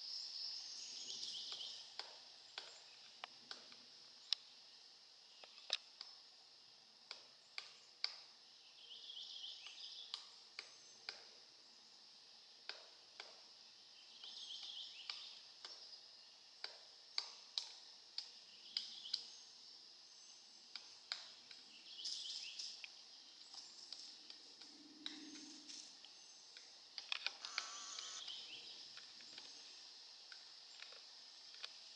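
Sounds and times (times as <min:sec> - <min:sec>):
steady high hiss: 0:00.0 - 0:31.9.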